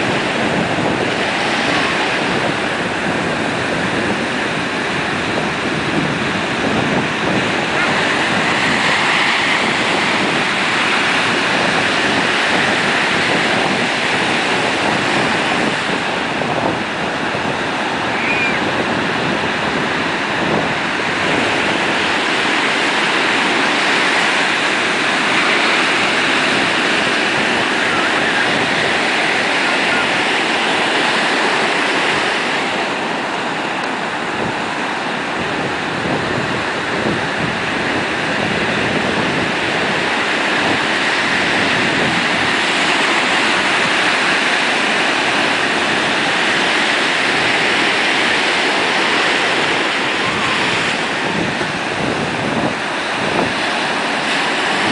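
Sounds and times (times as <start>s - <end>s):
ocean surf breaking: 0.0s - 54.9s.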